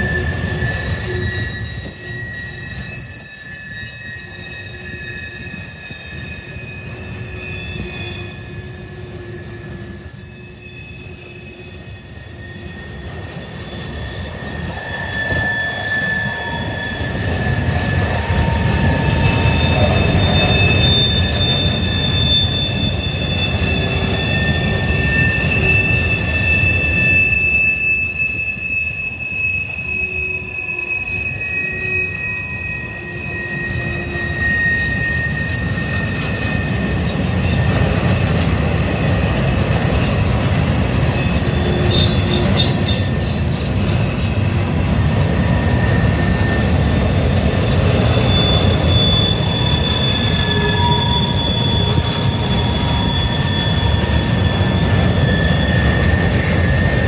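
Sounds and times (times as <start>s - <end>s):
train wheels rumbling on rails: 0.0s - 57.0s
wheels squealing: 0.0s - 57.0s.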